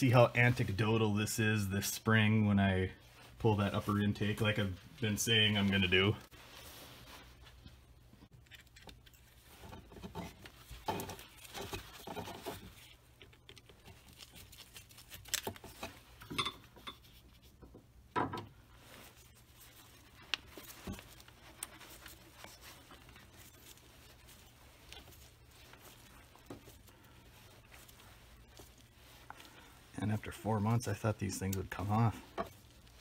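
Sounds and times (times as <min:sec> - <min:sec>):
rustling of gloved hands: 0:00.0 - 0:33.0.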